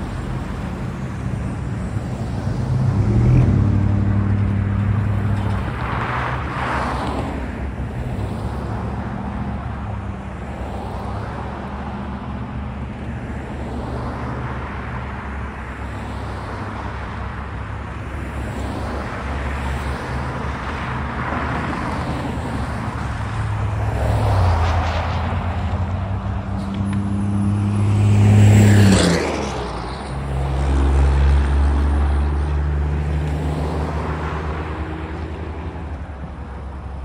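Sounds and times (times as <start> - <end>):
cars passing on highway: 0.0 - 37.0.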